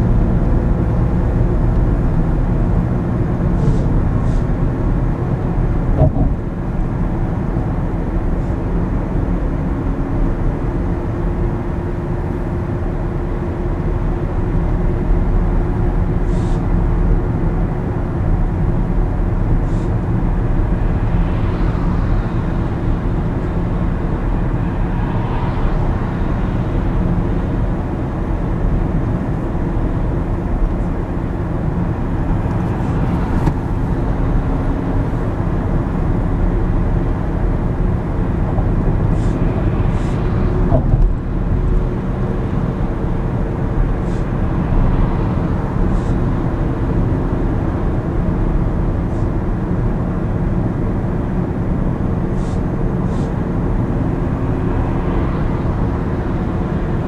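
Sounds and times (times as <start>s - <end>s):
car road noise inside cabin: 0.0s - 57.0s.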